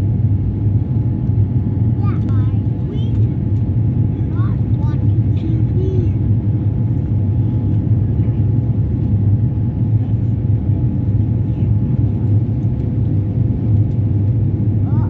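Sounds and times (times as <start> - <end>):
jet engine and airflow roar: 0.0 - 15.0.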